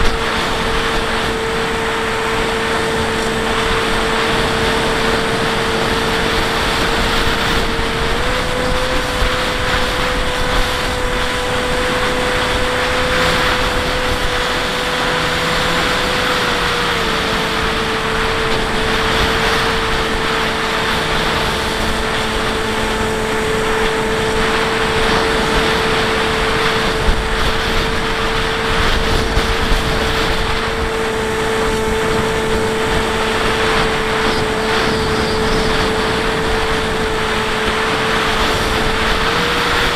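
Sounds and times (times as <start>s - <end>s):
electric motor and propeller whining: 0.0s - 39.9s
heavy rush of air: 0.0s - 39.9s.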